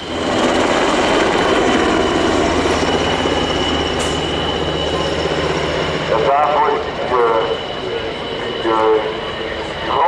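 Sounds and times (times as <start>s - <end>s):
helicopter flying low: 0.0s - 10.0s.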